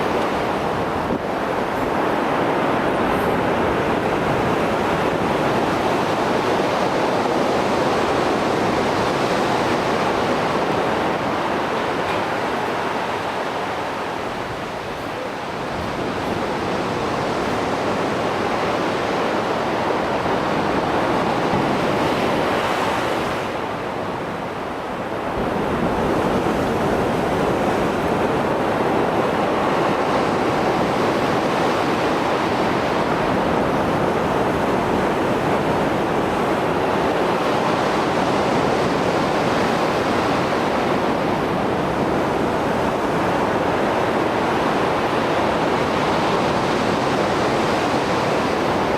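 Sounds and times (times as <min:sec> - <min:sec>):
waves breaking on shore: 0:00.0 - 0:48.9.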